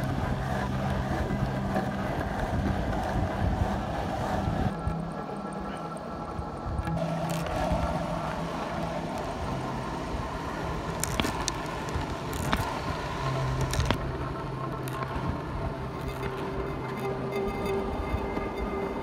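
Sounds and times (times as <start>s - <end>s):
wheels rolling on asphalt: 0.0s - 19.0s.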